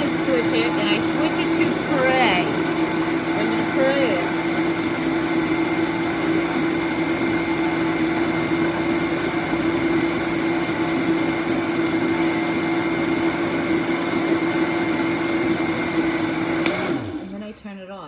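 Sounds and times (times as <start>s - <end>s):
blender running: 0.0s - 17.6s.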